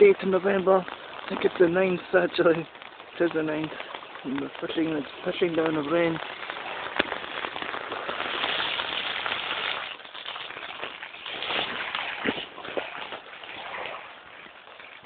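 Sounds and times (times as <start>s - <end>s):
heavy rain falling: 0.0s - 15.0s
sharp raindrop hits: 0.0s - 15.0s.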